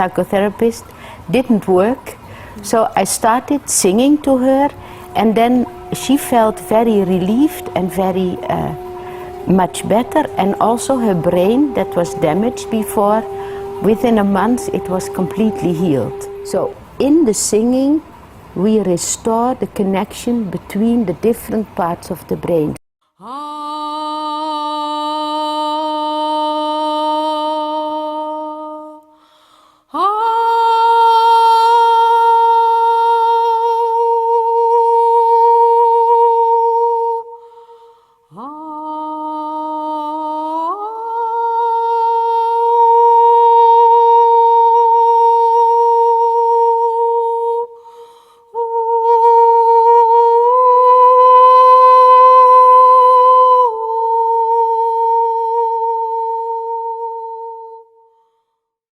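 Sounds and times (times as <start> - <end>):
person singing sustained tones: 0.0 - 19.5, 30.0 - 58.0.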